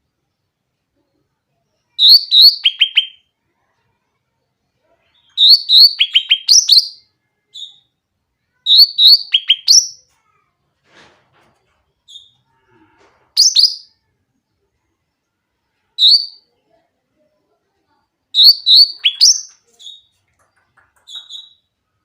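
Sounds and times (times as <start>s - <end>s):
songbird chirping and trilling: 1.0s - 10.1s, 12.0s - 12.6s, 13.4s - 21.8s.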